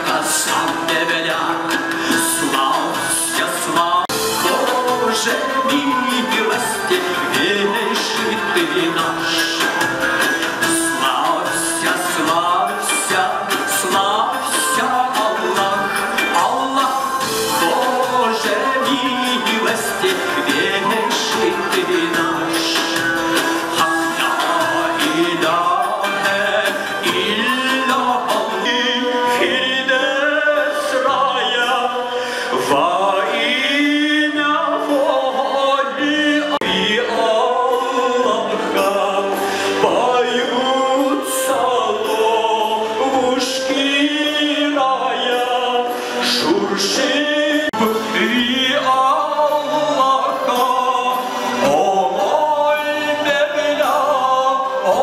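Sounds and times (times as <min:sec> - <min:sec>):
man singing into a microphone: 0:00.0 - 0:55.0
musical accompaniment: 0:00.0 - 0:55.0.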